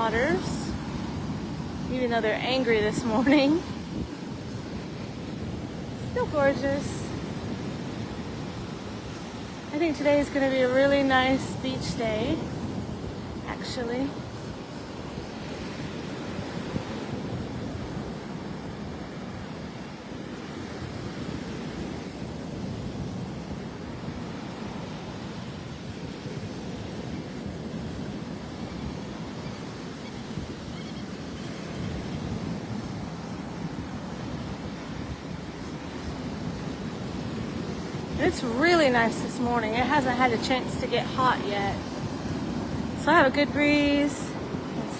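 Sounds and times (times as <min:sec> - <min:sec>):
breeze buffeting microphone: 0:00.0 - 0:20.2, 0:25.5 - 0:44.9
waves breaking: 0:00.0 - 0:44.9.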